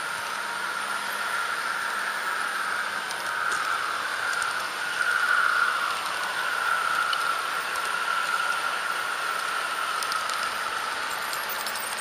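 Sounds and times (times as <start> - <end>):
high motor whine: 0.0 - 12.0.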